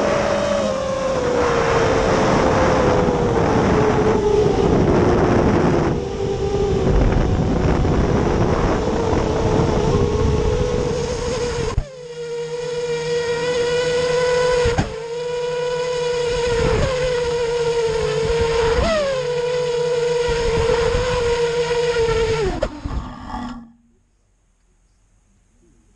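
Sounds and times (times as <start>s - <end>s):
drone motors whining: 0.0s - 24.1s.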